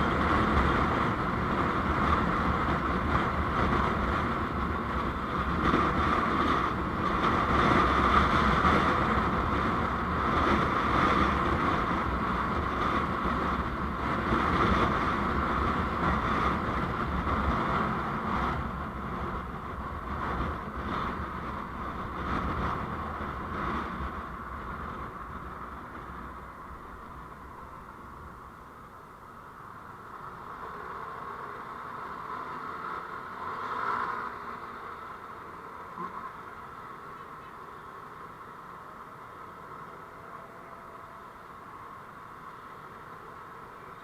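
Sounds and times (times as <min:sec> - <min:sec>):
vehicle road and wind noise: 0:00.0 - 0:44.0.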